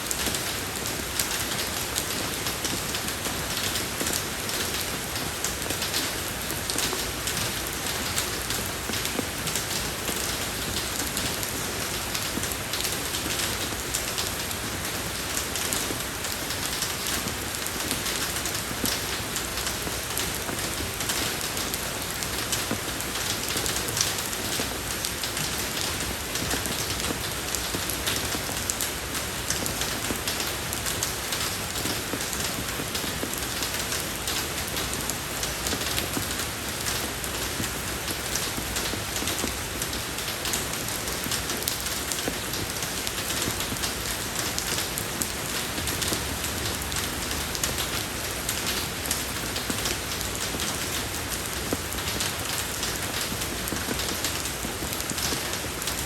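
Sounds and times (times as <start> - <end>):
rain falling on road: 0.0 - 56.0.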